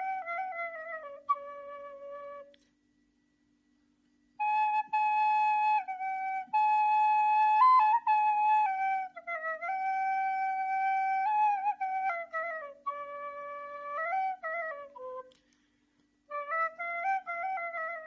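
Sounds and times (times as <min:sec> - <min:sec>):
reed flute melody: 0:00.0 - 0:02.7, 0:04.4 - 0:15.7, 0:16.3 - 0:18.0.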